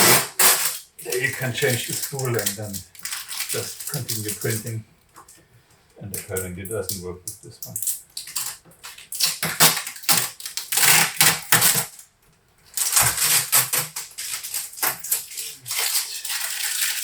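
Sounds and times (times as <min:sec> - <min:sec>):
plastic and packaging handling: 0:00.0 - 0:05.4, 0:06.1 - 0:17.0.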